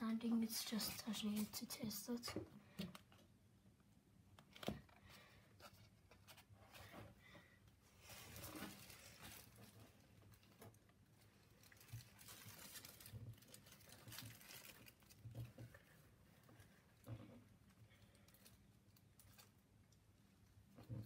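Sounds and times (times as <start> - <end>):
faint rustling and crinkling: 0.1 - 3.4, 4.4 - 21.0.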